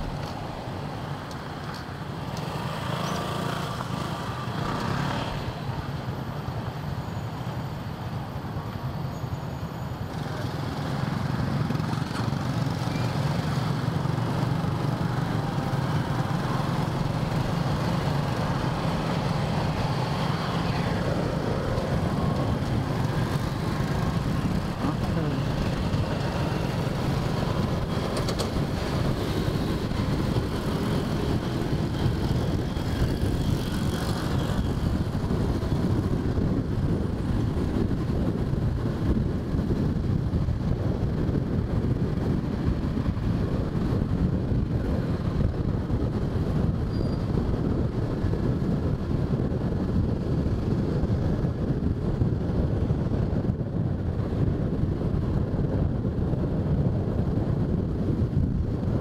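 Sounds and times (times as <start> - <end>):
traffic rumble: 0.0 - 59.0
wind noise on microphone: 9.2 - 59.0.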